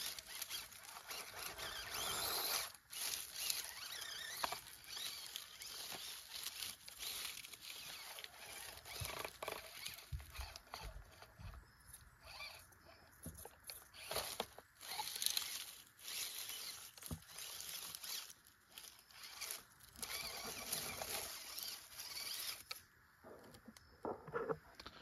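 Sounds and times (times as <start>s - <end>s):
dry leaves crackling under tyres: 0.0s - 22.9s.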